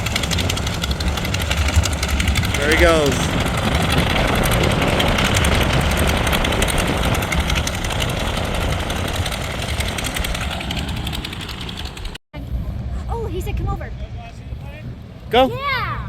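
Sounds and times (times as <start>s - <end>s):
aircraft engine departing: 0.0s - 12.9s.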